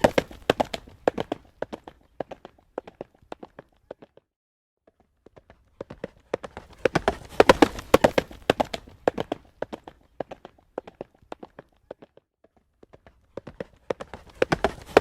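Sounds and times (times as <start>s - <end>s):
horse hooves trotting on road: 0.0s - 4.2s, 5.1s - 15.0s.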